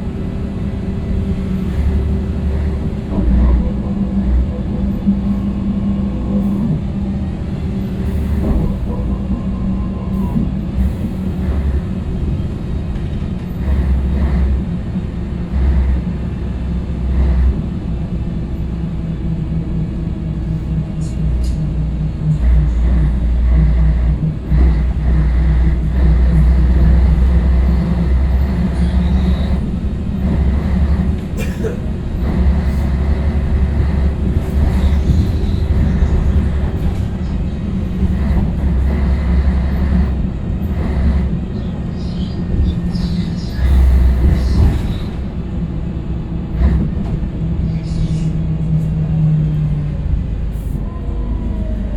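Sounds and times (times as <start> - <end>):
diesel bus engine rumble: 0.0 - 51.9.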